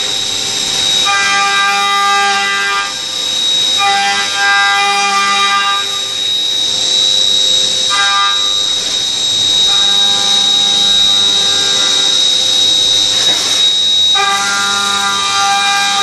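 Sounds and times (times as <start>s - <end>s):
end mill cutting metal: 0.0s - 16.0s
spindle whine: 0.0s - 16.0s.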